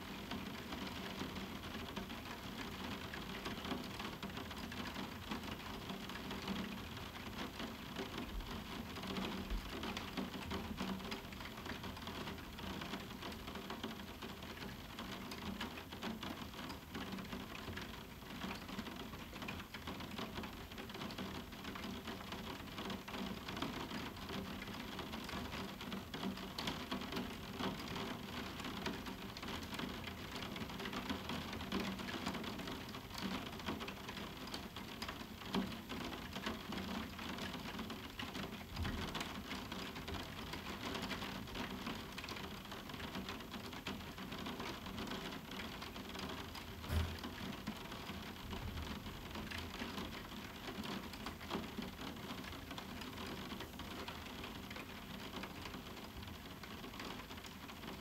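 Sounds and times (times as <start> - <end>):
rain pattering on glass: 0.0 - 58.0.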